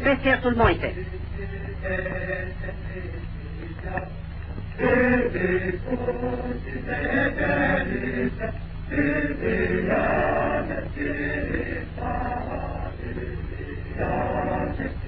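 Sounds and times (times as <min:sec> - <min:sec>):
low film soundtrack hum: 0:00.0 - 0:15.0
men chanting in unison: 0:00.8 - 0:15.0.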